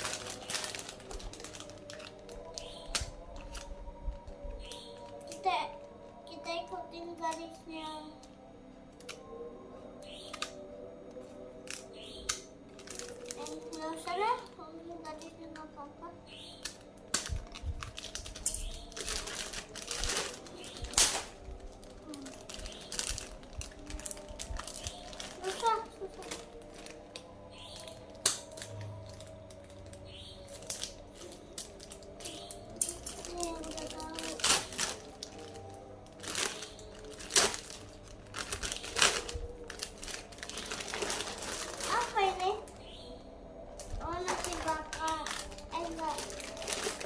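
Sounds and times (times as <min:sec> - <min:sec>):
plastic wrapper crinkling: 0:00.0 - 0:06.1, 0:11.4 - 0:15.6, 0:16.6 - 0:43.0, 0:43.6 - 0:47.0.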